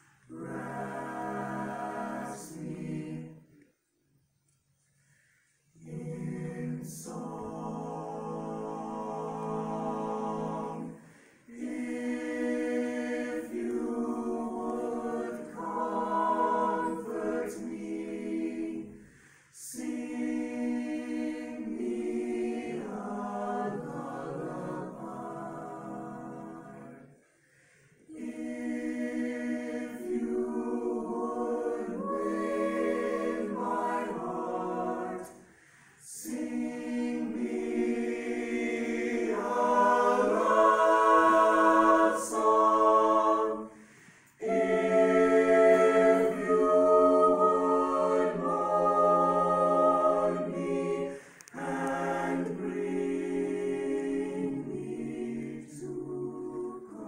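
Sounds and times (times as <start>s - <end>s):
choir singing unaccompanied: 0.0s - 3.9s, 5.6s - 57.0s.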